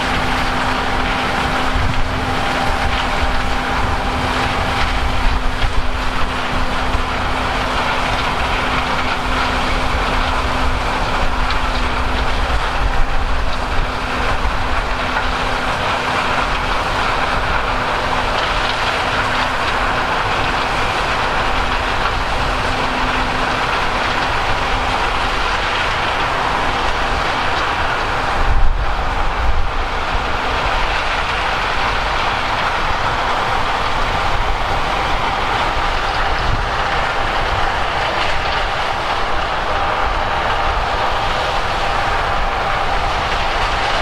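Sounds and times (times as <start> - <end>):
diesel machinery running: 0.0 - 44.0
steady hum: 0.0 - 44.0.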